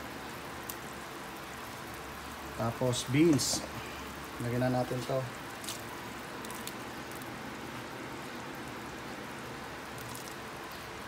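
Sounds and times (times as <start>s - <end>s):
broth bubbling in a pot: 0.0s - 11.0s.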